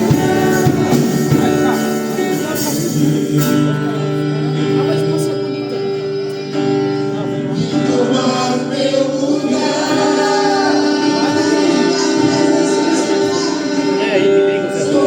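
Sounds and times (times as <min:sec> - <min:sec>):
keyboard chords: 0:00.0 - 0:15.0
voices singing gospel: 0:00.0 - 0:15.0.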